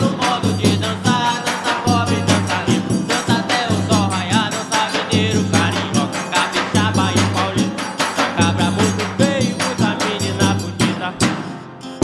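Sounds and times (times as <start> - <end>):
bass drum beat: 0.0 - 11.6
accordion melody: 0.0 - 12.0.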